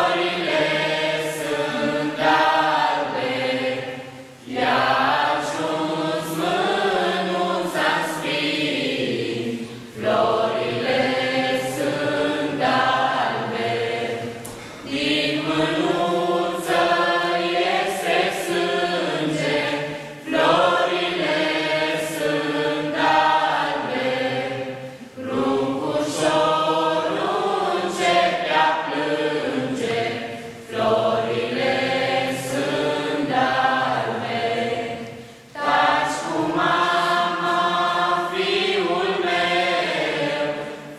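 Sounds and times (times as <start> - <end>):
young voices singing a carol: 0.0 - 40.9.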